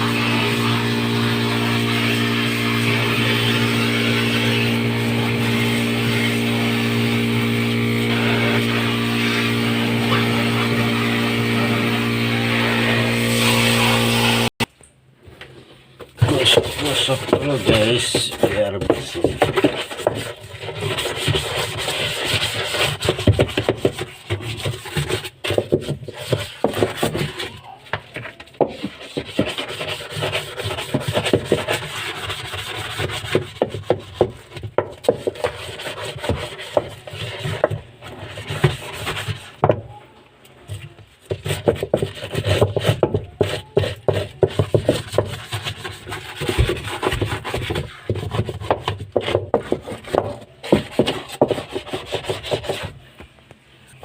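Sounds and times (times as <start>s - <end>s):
scrubbing brush strokes: 0.0s - 14.5s, 15.6s - 53.2s.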